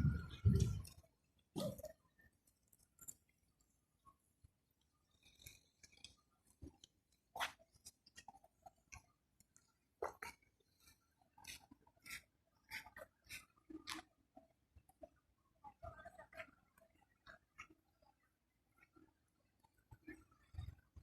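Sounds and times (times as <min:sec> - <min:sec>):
faint clicks and crackles: 0:00.3 - 0:21.0.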